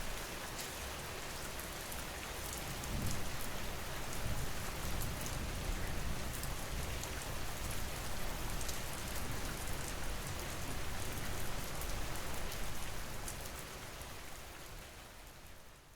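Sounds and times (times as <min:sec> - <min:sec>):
rain pattering: 0:00.0 - 0:15.8.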